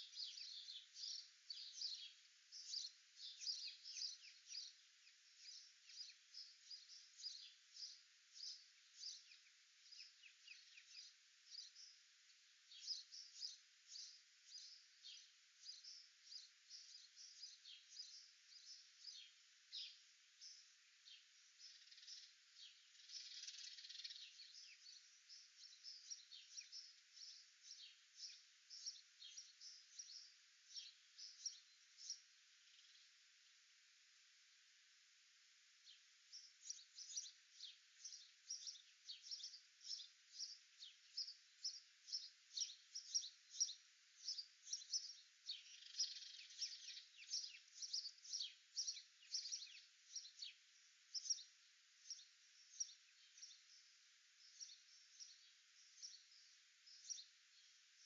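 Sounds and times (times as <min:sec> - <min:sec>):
faint small-bird chirping: 0:00.0 - 0:58.0.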